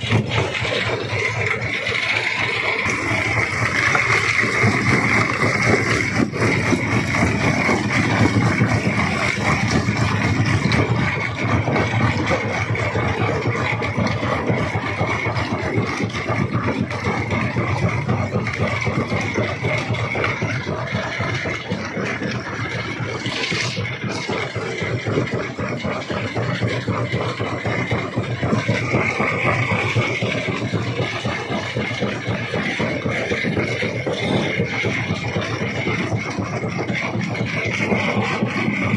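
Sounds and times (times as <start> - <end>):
rock crusher running: 0.0 - 38.9
stone rattling and grinding: 0.0 - 38.9.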